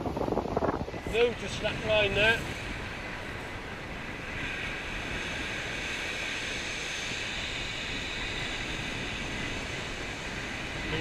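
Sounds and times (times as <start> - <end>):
surf on shingle beach: 0.0 - 11.0
wind buffeting microphone: 0.0 - 11.0.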